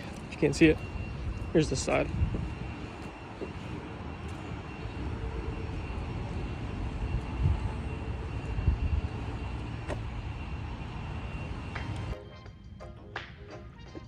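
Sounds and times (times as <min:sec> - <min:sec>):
low outdoor rumble: 0:00.0 - 0:12.2.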